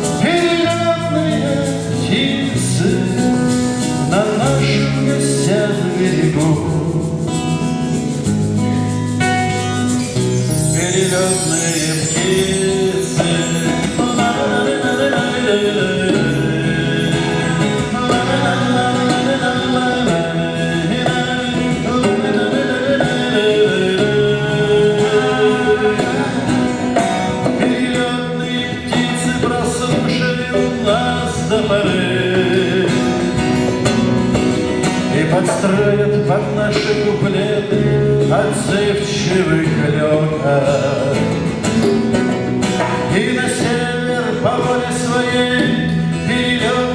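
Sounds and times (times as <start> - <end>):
man singing: 0.0 - 8.9, 9.5 - 46.9
guitar: 0.0 - 46.9.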